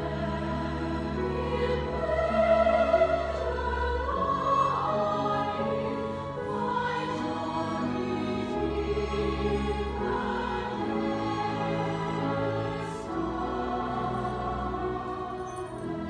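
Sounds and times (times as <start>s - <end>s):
chamber orchestra: 0.0s - 16.0s
mixed choir singing: 0.0s - 16.0s.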